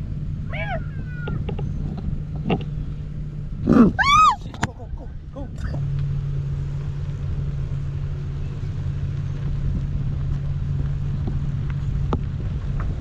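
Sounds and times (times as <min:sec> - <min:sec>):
car cabin hum and rumble: 0:00.0 - 0:13.0.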